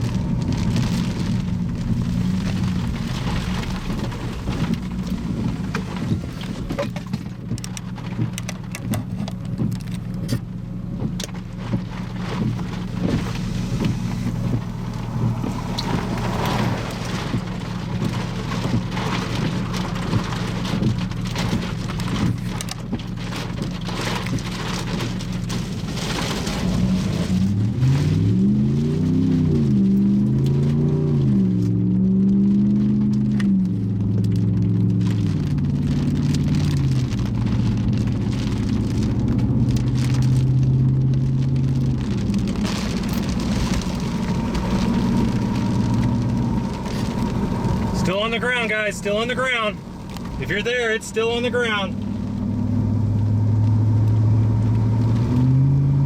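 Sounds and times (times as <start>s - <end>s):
engine and road noise: 0.0s - 56.0s
rain hitting a vehicle: 0.0s - 56.0s.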